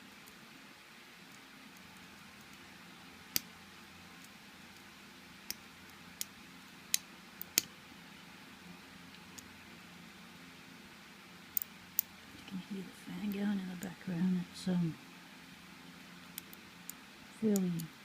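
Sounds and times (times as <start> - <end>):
electric fan hissing: 0.0 - 18.0.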